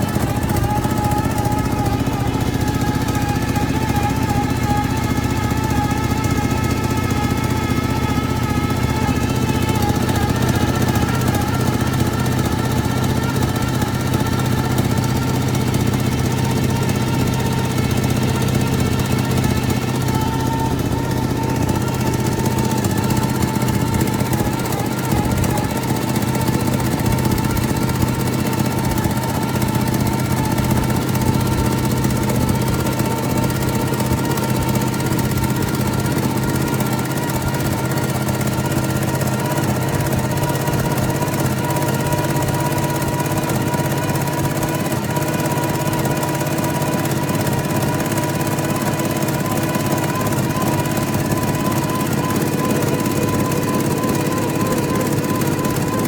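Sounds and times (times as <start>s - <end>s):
car engine running: 0.0s - 56.0s
high-pitched whine: 0.0s - 56.0s.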